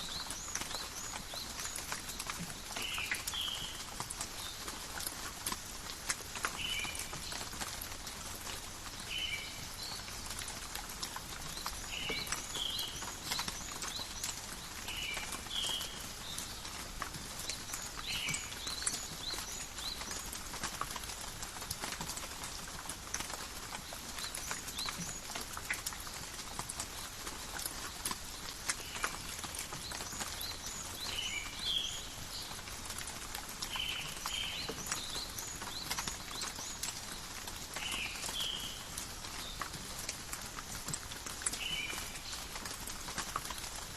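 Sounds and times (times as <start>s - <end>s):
rain dripping in a forest: 0.0s - 43.9s.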